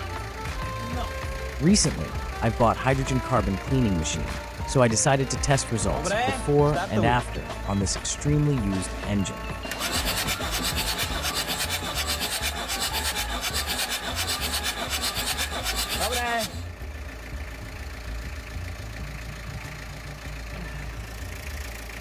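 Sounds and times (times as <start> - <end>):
diesel engine cranking on starter: 0.0 - 22.0.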